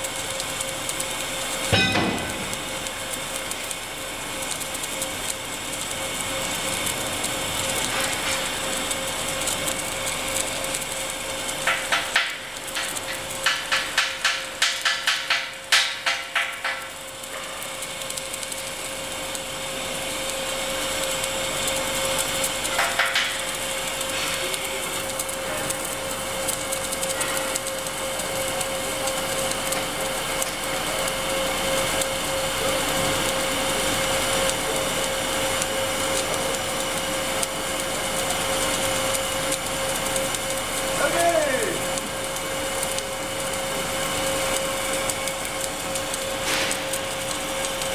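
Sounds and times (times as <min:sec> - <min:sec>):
welding arc crackling: 0:00.0 - 0:47.9.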